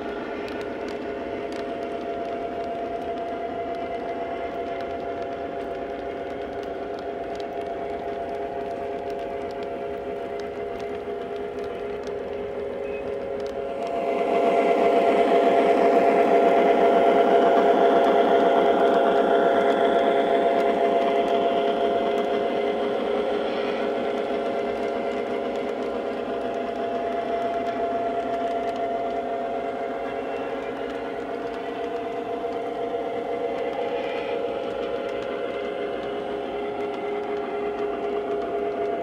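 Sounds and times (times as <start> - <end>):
model train running on track: 0.0 - 39.0.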